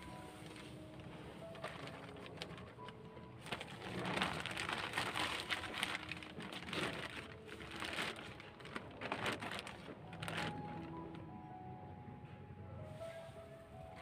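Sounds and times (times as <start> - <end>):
dry leaves rustling: 0.0 - 11.2
plastic sack crinkling: 0.0 - 11.4.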